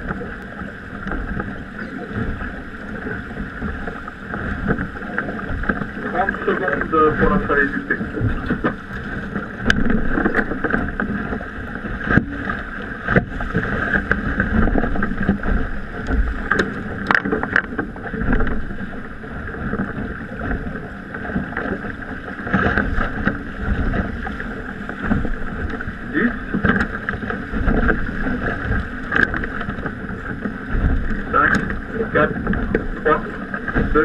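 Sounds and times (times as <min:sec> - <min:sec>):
water rushing along a hull: 0:00.0 - 0:34.0
wind buffeting the microphone: 0:00.0 - 0:34.0.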